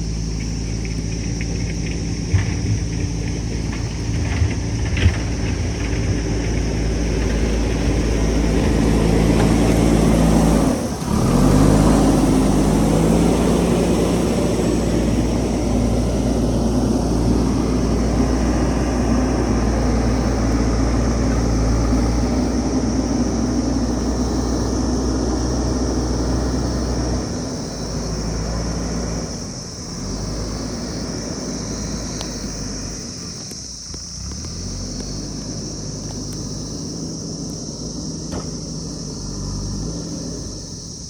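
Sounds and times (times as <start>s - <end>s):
diesel engine under load: 0.0s - 41.0s.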